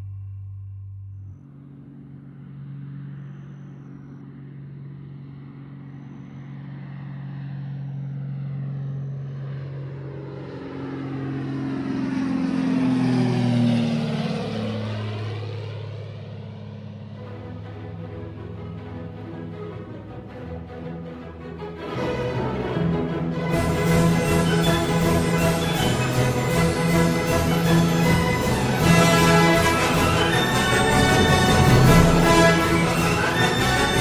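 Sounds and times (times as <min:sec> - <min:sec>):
airplane engine drone: 0:00.0 - 0:34.0.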